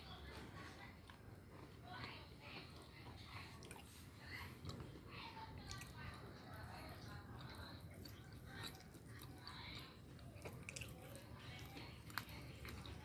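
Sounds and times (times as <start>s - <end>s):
cat chewing: 0.6s - 13.0s.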